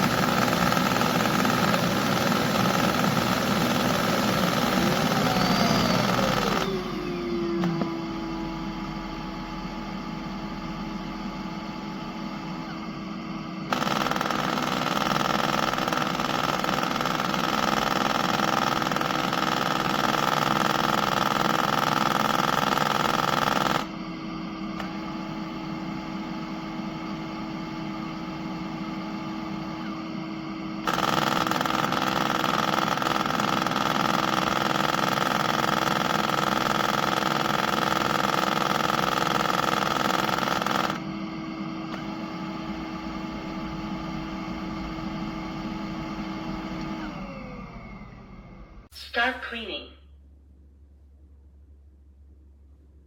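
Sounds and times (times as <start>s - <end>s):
robot vacuum motor humming: 0.0s - 24.1s, 24.7s - 48.9s.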